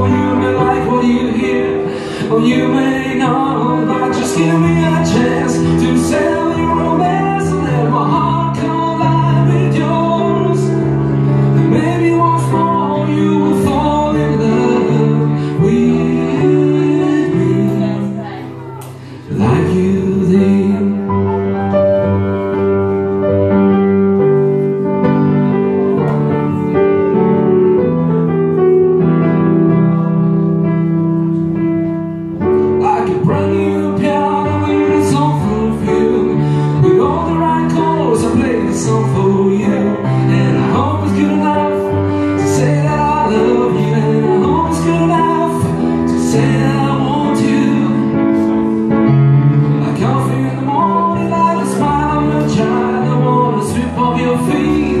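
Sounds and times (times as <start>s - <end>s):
man singing: 0.0s - 18.4s, 19.0s - 22.2s, 32.5s - 55.0s
slow piano chords: 0.0s - 55.0s.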